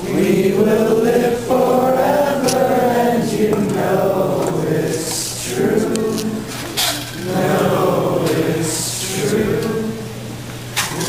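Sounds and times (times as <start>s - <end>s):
voices singing long notes: 0.0s - 11.0s.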